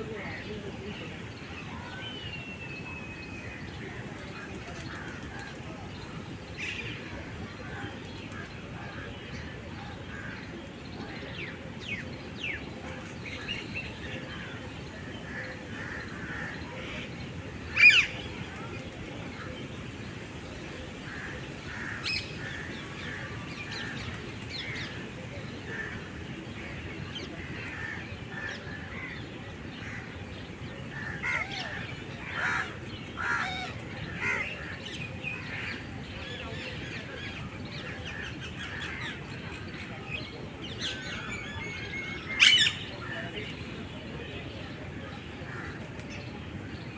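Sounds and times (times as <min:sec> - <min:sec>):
birds calling and chirping: 0:00.1 - 0:46.9.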